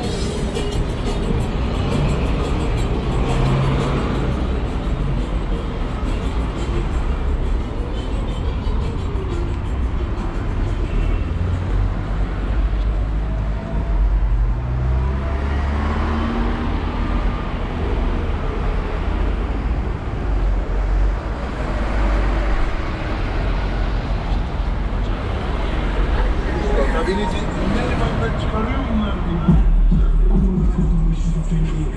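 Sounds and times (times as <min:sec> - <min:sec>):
cars passing: 0:00.0 - 0:31.9.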